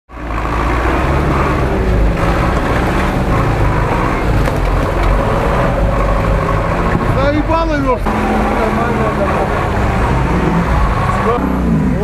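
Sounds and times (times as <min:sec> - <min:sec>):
truck engine rumbling with whine: 0:00.1 - 0:12.0.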